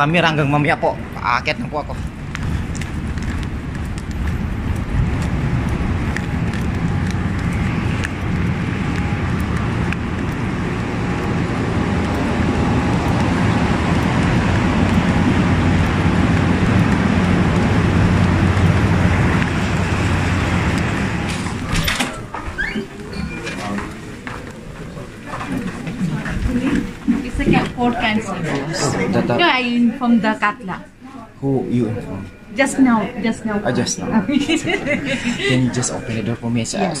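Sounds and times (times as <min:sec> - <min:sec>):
low rumbling background noise: 0:00.0 - 0:37.0.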